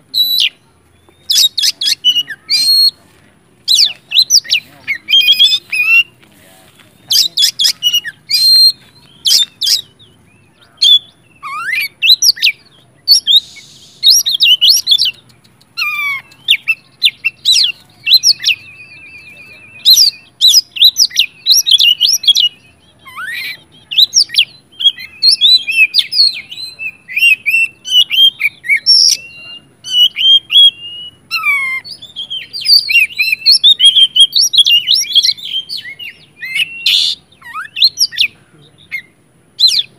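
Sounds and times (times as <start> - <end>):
bird singing loudly: 0.0 - 3.0, 3.7 - 6.2, 7.0 - 39.9.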